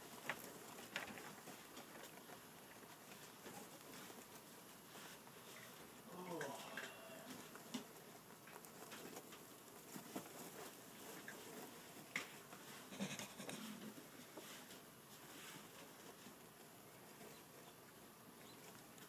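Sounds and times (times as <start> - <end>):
rats scratching paper towel: 0.0 - 6.0, 7.1 - 19.0.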